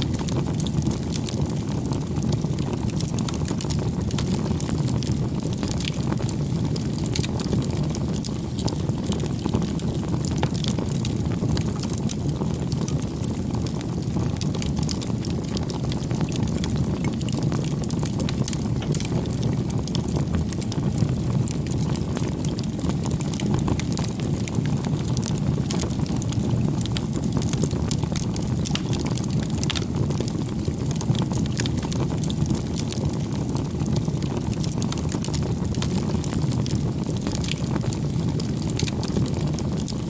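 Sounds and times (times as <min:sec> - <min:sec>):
campfire flames rushing: 0:00.0 - 0:40.0
fire crackling and popping: 0:00.0 - 0:40.0.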